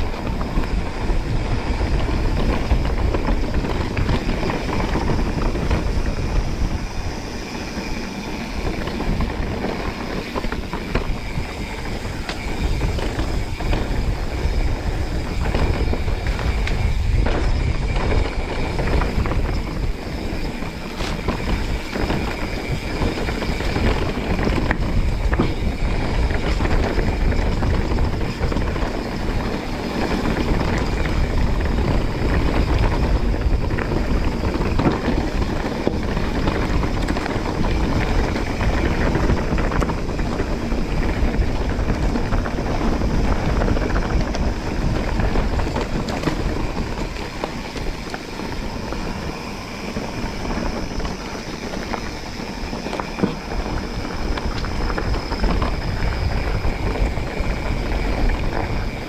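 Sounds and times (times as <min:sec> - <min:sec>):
bike knocks and rattles: 0:00.0 - 0:59.0
tyres rumbling on dirt: 0:00.0 - 0:59.0
wind buffeting microphone: 0:00.0 - 0:59.0.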